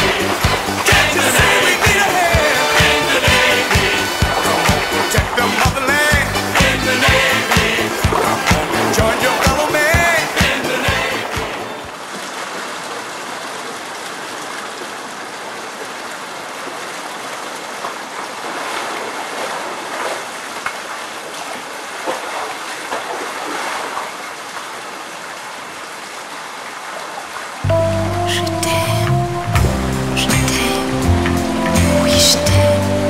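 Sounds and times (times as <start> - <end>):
small water splashes: 0.0 - 27.6
running water rushing: 0.0 - 33.0.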